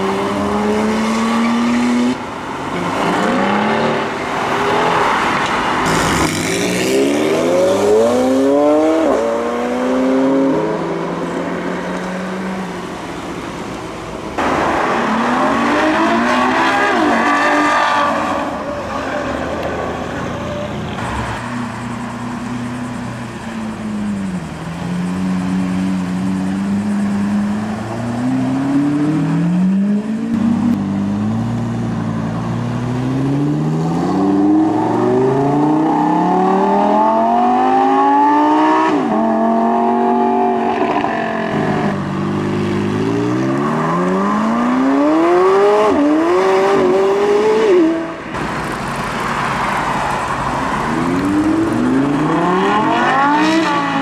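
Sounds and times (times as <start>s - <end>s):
sports car engines accelerating: 0.0s - 54.0s.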